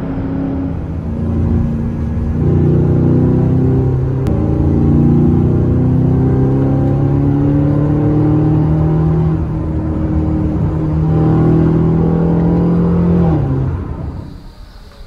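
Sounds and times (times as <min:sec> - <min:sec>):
car engine accelerating: 0:00.0 - 0:14.4.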